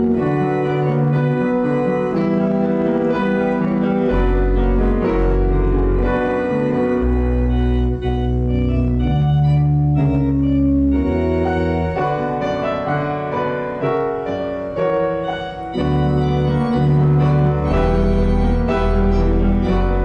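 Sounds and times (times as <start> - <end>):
organ chords: 0.0 - 20.0.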